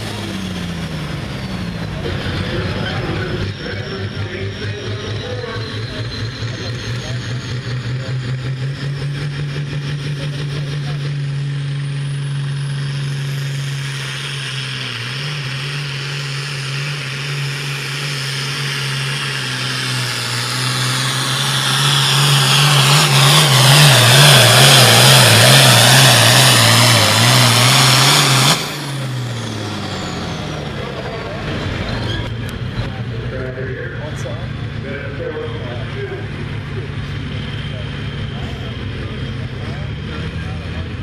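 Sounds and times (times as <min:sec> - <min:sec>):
tractor engine at full throttle: 0:00.0 - 0:41.0.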